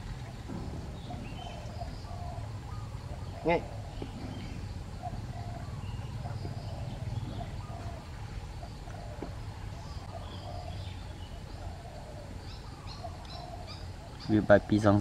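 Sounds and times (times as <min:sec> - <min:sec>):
steady low rumble: 0:00.0 - 0:14.1
faint bird chirps: 0:00.3 - 0:15.0.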